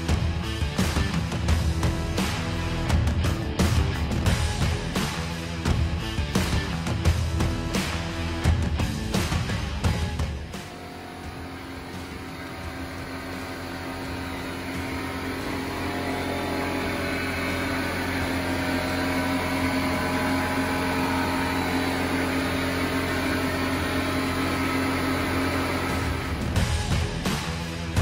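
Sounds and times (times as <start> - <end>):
droning background music: 0.0 - 28.0.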